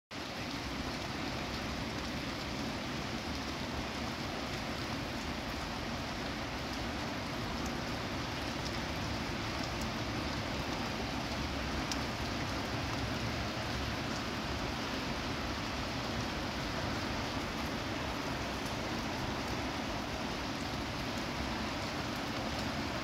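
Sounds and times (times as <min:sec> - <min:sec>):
rain falling: 0:00.1 - 0:23.0.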